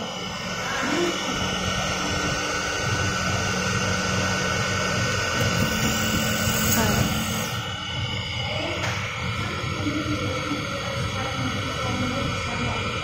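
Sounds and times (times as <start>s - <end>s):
faint whining tones: 0.0s - 13.0s
hot-air blower hissing: 0.0s - 13.0s.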